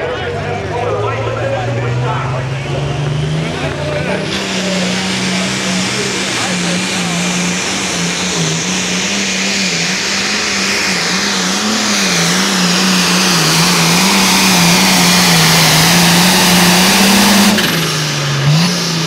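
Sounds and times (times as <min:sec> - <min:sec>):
diesel tractor engine under load: 0:00.0 - 0:19.0.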